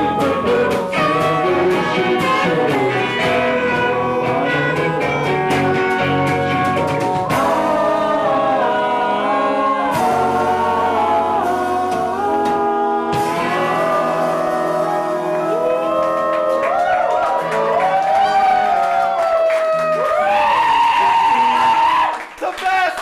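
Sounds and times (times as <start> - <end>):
live band playing: 0.0 - 22.1
person singing: 0.0 - 22.2.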